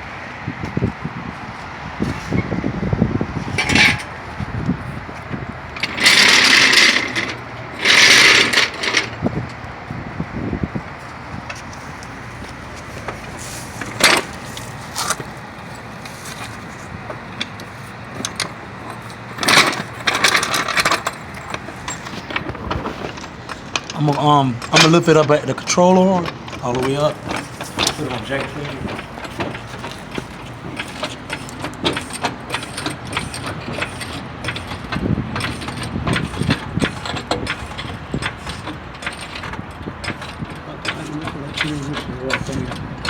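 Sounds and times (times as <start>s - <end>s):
metal tools rattling and clanking: 3.4s - 4.4s, 5.2s - 9.4s, 11.4s - 43.0s.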